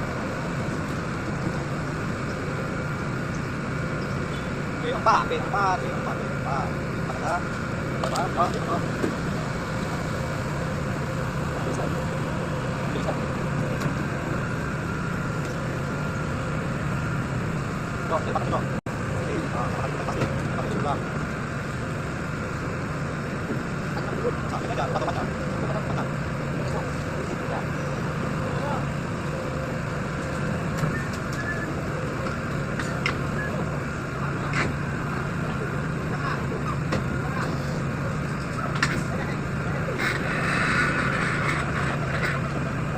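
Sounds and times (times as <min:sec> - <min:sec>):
faint steady whine: 0:00.0 - 0:42.9
pile driver engine hum: 0:00.0 - 0:42.9.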